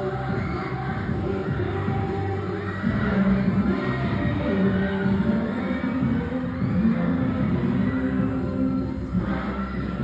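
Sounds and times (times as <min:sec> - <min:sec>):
loud dance music over loudspeakers: 0:00.0 - 0:10.0.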